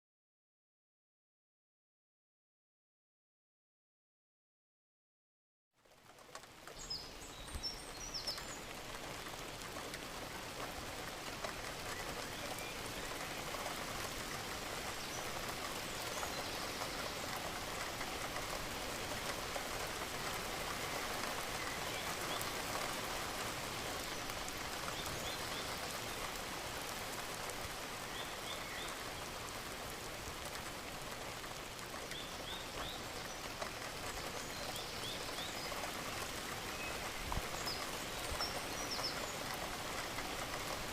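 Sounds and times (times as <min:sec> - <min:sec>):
steady rain: 0:05.8 - 0:40.9
birds chirping: 0:06.6 - 0:40.9.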